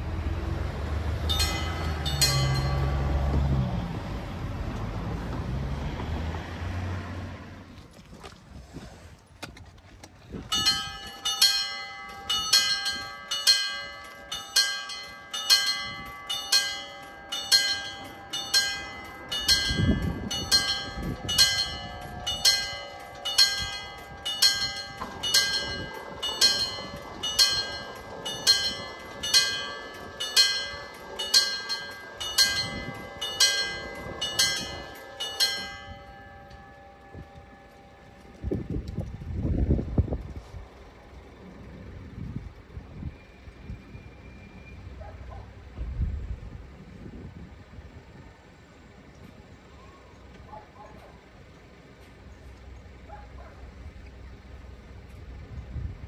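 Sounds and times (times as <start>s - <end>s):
level-crossing warning bells: 0.0s - 5.8s, 10.4s - 55.6s.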